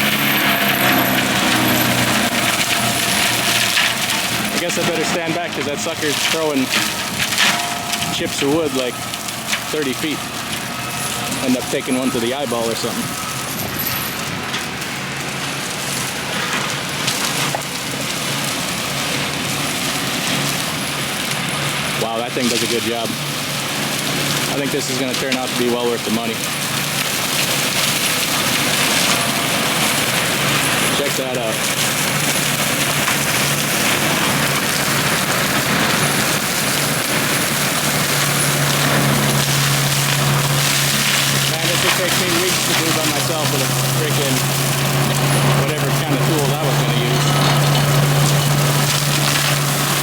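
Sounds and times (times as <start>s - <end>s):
engine hum: 0.0s - 50.0s
mulcher shredding wood: 0.0s - 50.0s.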